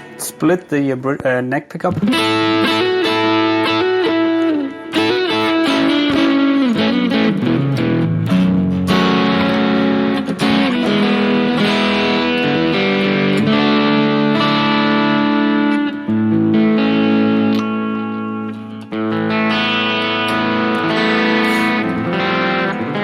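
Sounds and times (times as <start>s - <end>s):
electric guitar playing: 0.0s - 23.0s.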